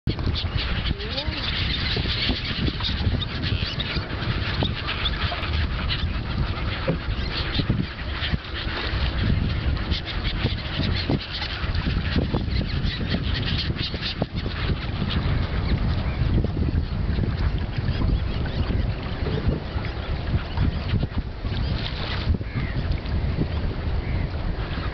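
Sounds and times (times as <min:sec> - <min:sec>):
gulls calling: 0:00.1 - 0:24.9.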